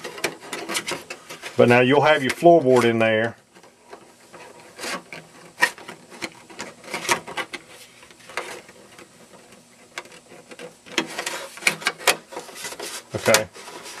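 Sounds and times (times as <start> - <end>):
plastic scraping: 0.0 - 14.0.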